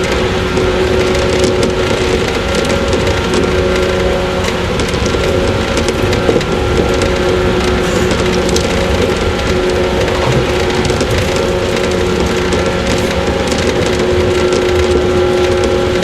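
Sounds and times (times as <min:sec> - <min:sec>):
train motor hum: 0:00.0 - 0:16.0
wheels clattering on rails: 0:00.0 - 0:16.0.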